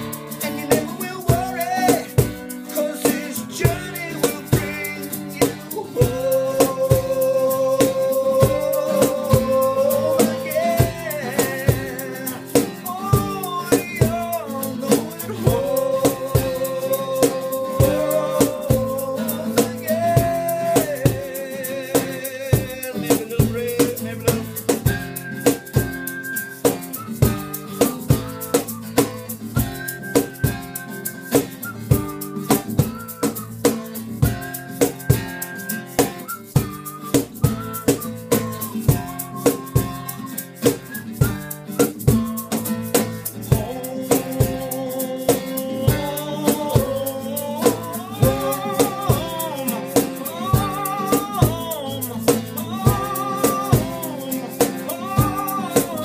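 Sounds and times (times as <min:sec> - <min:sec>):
folk band playing: 0:00.0 - 0:56.0
steady drum beat: 0:00.0 - 0:56.0.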